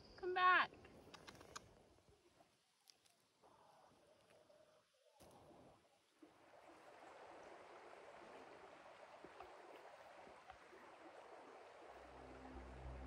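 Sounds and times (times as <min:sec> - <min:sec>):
creek water flowing: 0:00.7 - 0:13.0.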